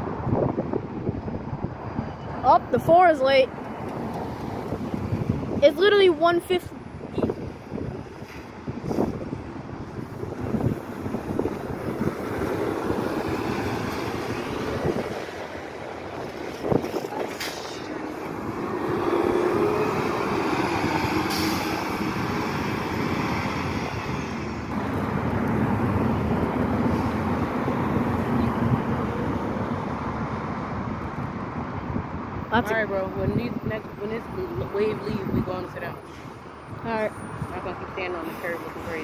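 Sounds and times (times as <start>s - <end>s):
buses driving past: 0.0s - 39.0s
traffic noise: 0.0s - 39.0s
car passing close: 7.3s - 39.0s.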